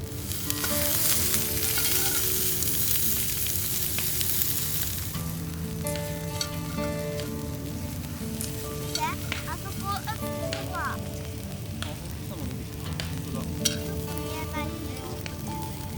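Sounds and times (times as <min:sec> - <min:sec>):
background music of held notes: 0:00.0 - 0:15.9
food sizzling in a pan: 0:00.0 - 0:15.9.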